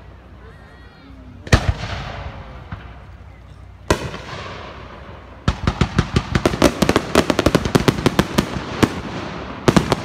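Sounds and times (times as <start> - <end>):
fireworks cracking and banging: 1.4 - 10.0.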